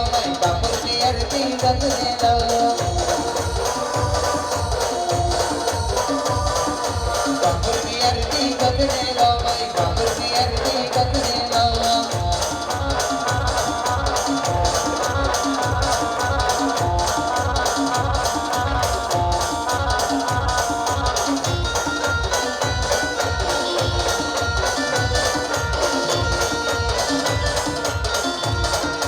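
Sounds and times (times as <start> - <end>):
bass drum beat: 0.0 - 29.0
instrumental melody line: 0.0 - 29.0
jingling percussion: 0.0 - 29.0.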